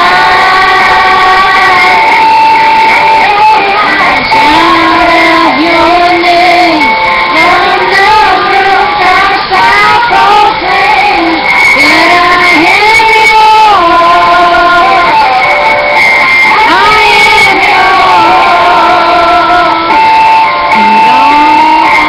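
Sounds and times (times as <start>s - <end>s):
woman singing slow melody: 0.0s - 15.7s, 16.4s - 22.0s.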